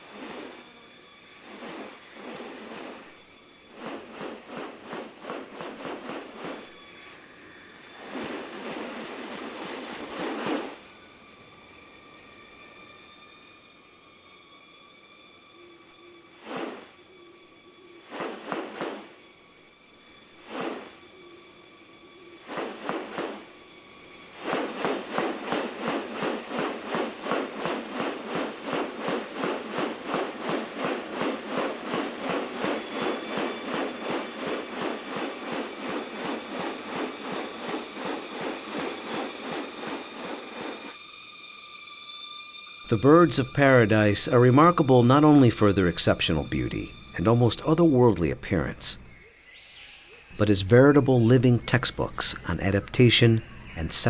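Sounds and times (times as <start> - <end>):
insect drone: 0.0 - 54.0.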